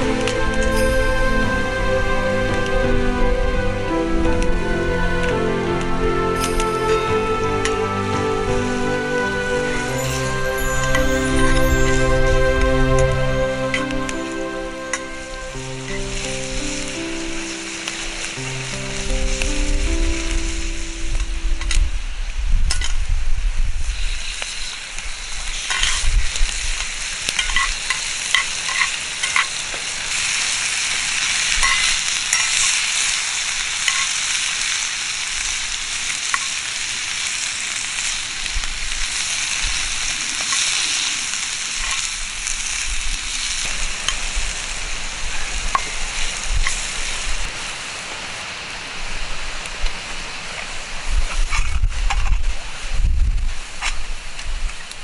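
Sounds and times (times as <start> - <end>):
food sizzling: 0.0 - 21.8, 24.0 - 47.7.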